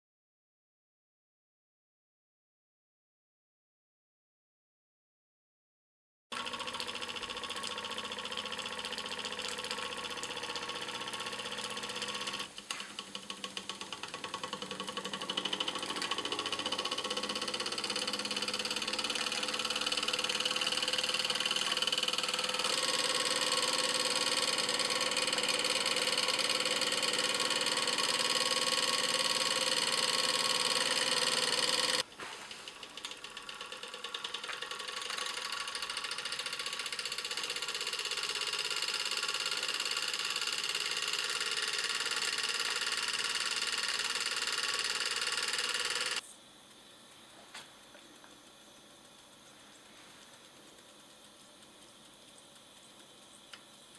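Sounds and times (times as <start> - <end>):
toy steam engine chuffing: 6.3 - 46.2, 48.1 - 53.9.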